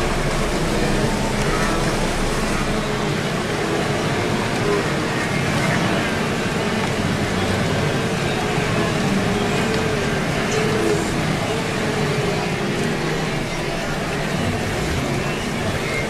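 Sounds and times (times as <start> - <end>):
splashing churning water: 0.0 - 16.0.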